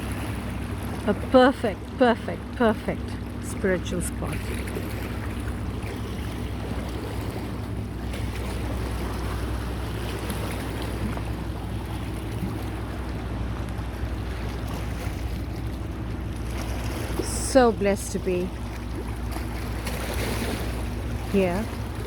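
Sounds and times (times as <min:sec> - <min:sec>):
engine humming: 0:00.0 - 0:22.0
sea water: 0:00.0 - 0:22.0.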